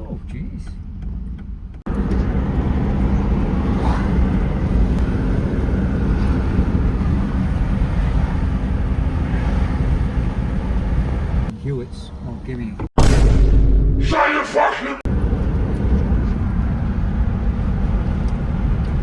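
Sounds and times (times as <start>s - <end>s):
wind and road noise in car: 0.0s - 13.0s, 15.0s - 19.0s.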